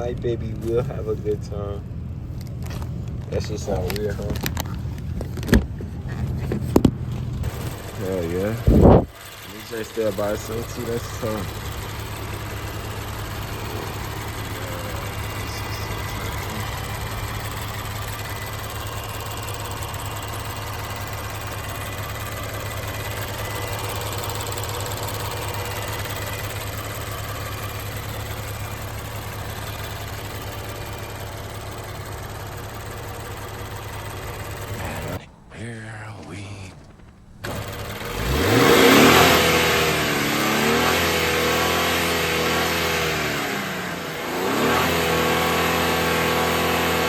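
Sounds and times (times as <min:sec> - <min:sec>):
car engine running steadily: 0:00.0 - 0:47.0.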